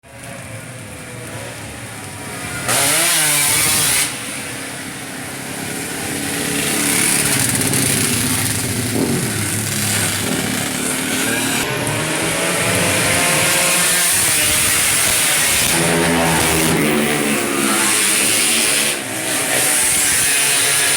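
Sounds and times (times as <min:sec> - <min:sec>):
motorcycle engines revving: 0:00.1 - 0:20.9.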